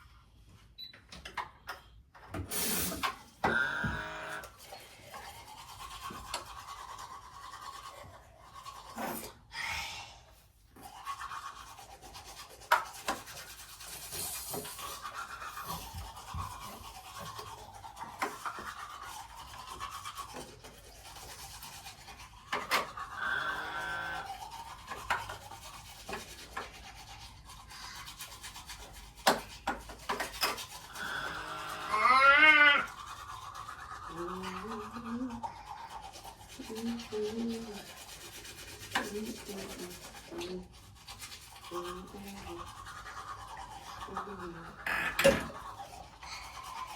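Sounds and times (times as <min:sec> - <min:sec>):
rubbing and scrubbing: 0:03.0 - 0:09.5, 0:10.6 - 0:46.9.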